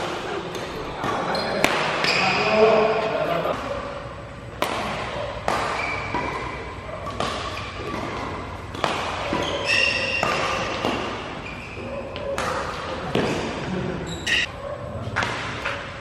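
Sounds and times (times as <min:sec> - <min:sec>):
badminton rackets hitting shuttlecock: 0:00.0 - 0:16.0.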